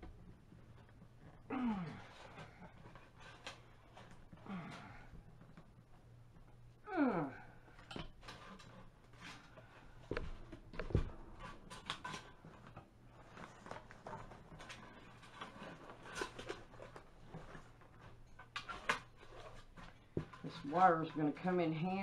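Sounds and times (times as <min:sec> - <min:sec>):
wire scraping and clicking: 0:00.0 - 0:06.6, 0:07.7 - 0:22.0.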